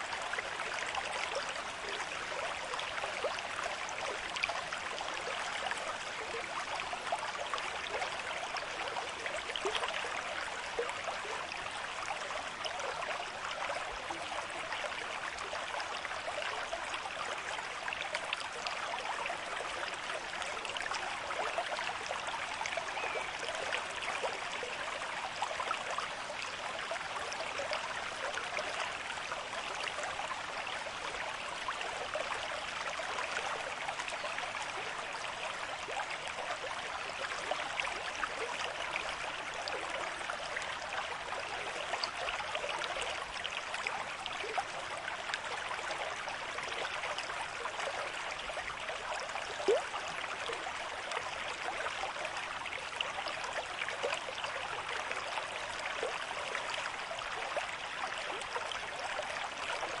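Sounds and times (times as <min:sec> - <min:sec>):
stream running over rocks: 0:00.0 - 1:00.0.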